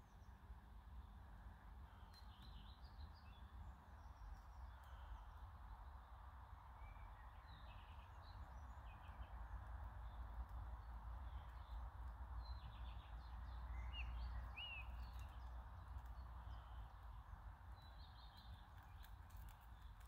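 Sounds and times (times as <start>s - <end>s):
outdoor hiss and rumble: 0.0s - 20.0s
small birds chirping: 1.8s - 20.0s.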